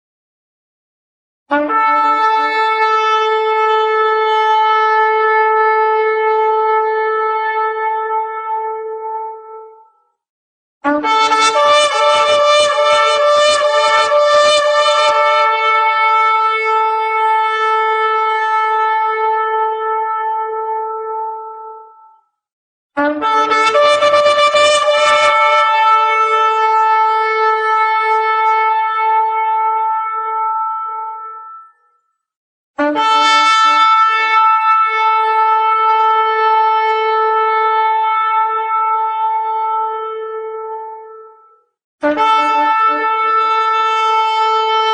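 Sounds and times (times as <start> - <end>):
horn blown in long held note: 1.5 - 10.0, 10.8 - 22.2, 23.0 - 32.0, 32.8 - 44.9.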